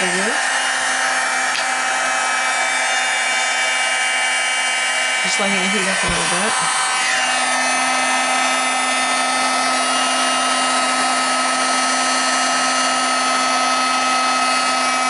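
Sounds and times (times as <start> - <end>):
heat gun blowing air: 0.0 - 15.0.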